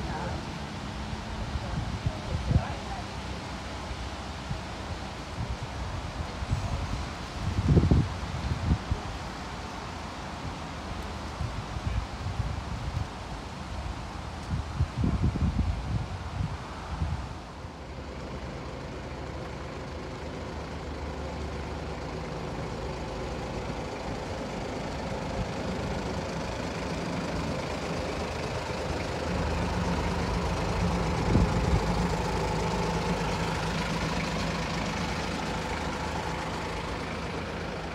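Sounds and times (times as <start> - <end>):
diesel locomotive engine running: 0.0 - 37.9.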